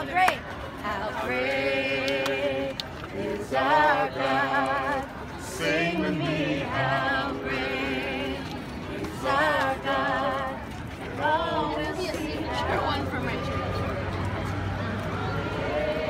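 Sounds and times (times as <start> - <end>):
group of people singing: 0.8 - 13.2, 14.8 - 16.0.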